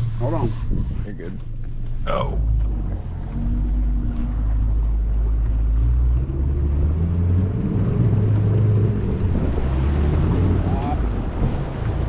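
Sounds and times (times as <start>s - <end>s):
outboard motor running: 0.0s - 12.0s
wind rumble on microphone: 0.0s - 12.0s.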